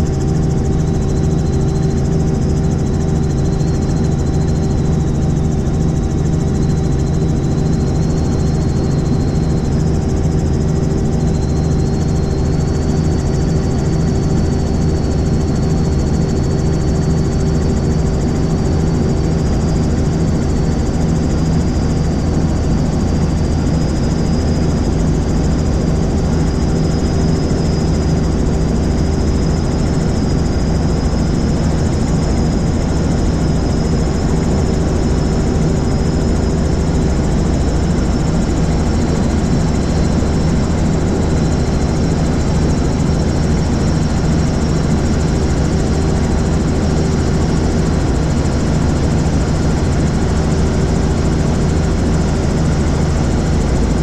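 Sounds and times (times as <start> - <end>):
faint high whine: 0.0 - 54.0
helicopter drone: 0.0 - 54.0.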